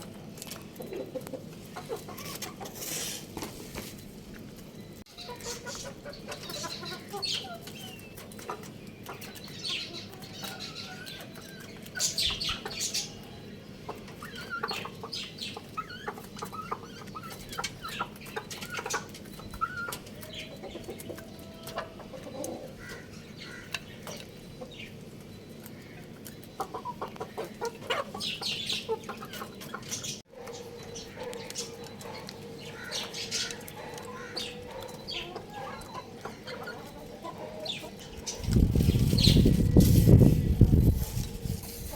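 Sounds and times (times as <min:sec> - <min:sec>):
chicks peeping and clucking: 0:00.0 - 0:41.9.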